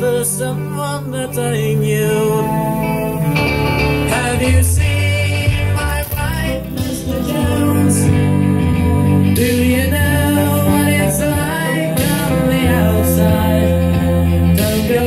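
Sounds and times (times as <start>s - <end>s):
rock song over loudspeakers: 0.0s - 15.0s.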